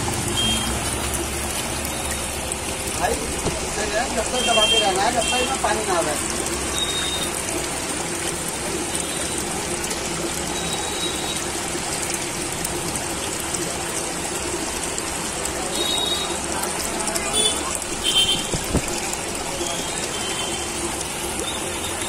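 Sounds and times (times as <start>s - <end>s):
water trickling into fish tank: 0.0s - 22.0s.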